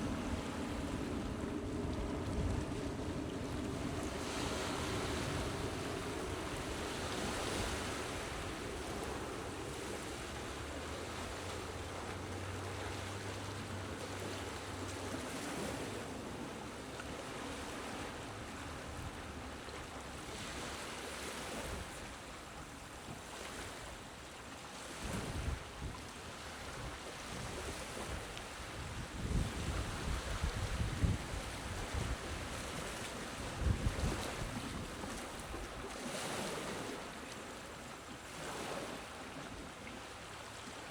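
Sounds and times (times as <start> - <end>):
gentle sea waves washing ashore: 0.0 - 40.9.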